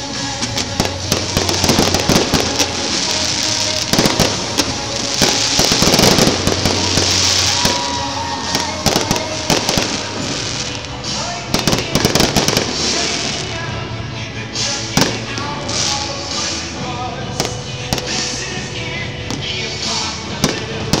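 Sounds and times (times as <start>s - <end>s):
dense crackling hiss: 0.0s - 21.0s
fireworks bangs and crackles: 0.0s - 21.0s.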